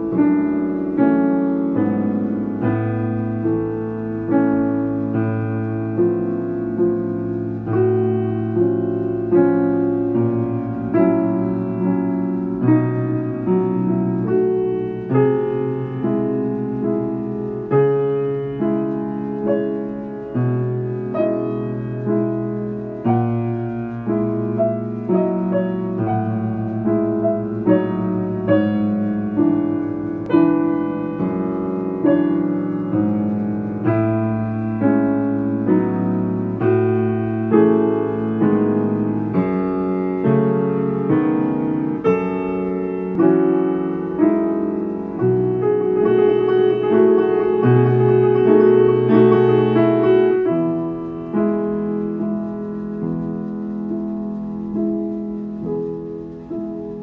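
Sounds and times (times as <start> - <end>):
slow gentle piano music: 0.0 - 57.0.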